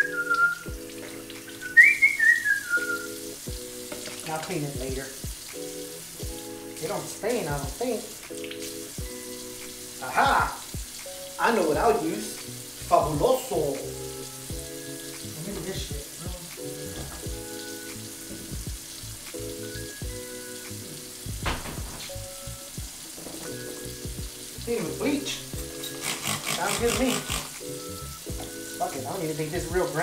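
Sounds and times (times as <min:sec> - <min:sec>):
music with held chords: 0:00.0 - 0:26.3, 0:27.3 - 0:30.0
steady sizzling hiss: 0:00.0 - 0:30.0.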